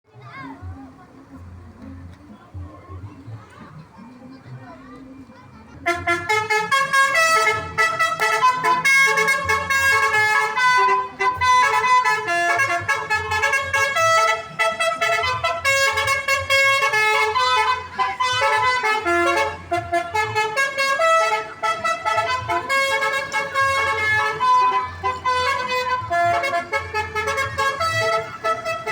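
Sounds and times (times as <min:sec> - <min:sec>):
multi-tone bus horn tune: 0:05.7 - 0:28.9.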